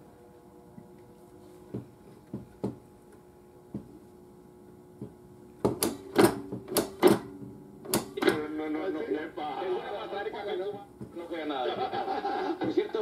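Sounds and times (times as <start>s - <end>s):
radio speaker humming: 0.0s - 13.0s.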